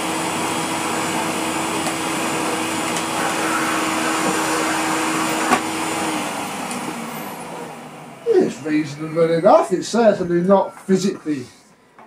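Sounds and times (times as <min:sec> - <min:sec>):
vacuum cleaner running: 0:00.0 - 0:10.5.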